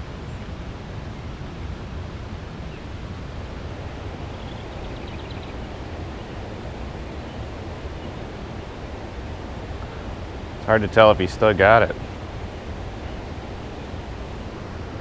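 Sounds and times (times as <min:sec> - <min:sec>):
river water: 0:00.0 - 0:15.0
wind rumbling on microphone: 0:00.0 - 0:15.0.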